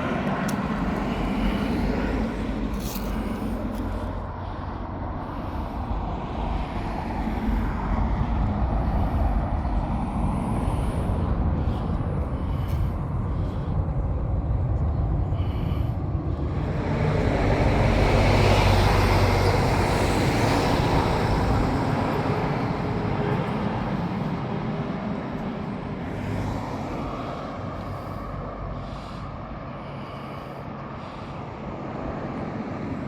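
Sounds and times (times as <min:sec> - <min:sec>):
jet aircraft engine rumble: 0:00.0 - 0:33.0.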